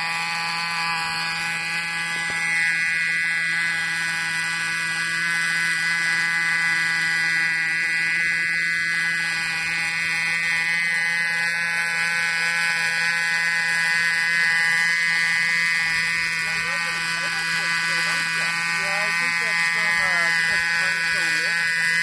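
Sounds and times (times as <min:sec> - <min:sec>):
small two-stroke engine buzzing: 0:00.0 - 0:22.0.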